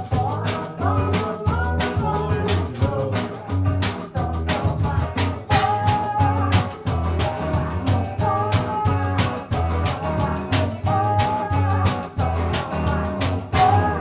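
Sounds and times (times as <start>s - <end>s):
plucked guitar-like lead: 0.0s - 14.0s
repeating bass line: 0.0s - 14.0s
steady drum beat: 0.0s - 14.0s.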